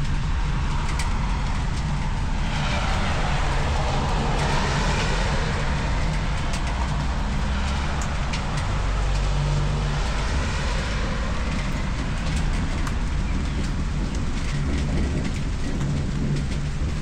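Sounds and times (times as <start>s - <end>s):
raindrop ticks: 0.0s - 17.0s
steady low rumble: 0.0s - 17.0s.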